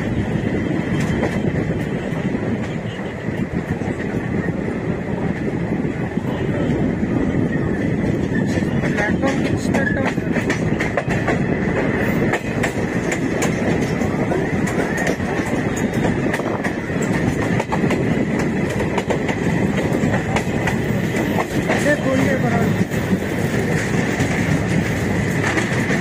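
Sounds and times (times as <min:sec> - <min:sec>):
clickety-clack over rail joints: 0:00.0 - 0:26.0
train wheels rumbling on track: 0:00.0 - 0:26.0.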